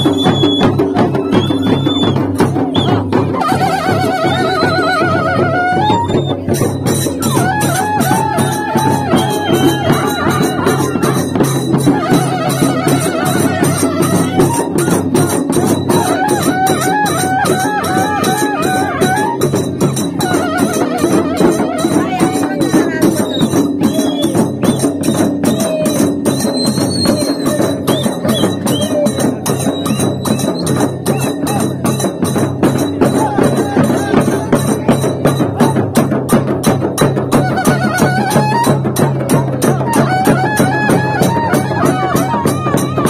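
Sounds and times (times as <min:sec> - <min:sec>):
drums beaten with sticks: 0:00.0 - 0:43.0.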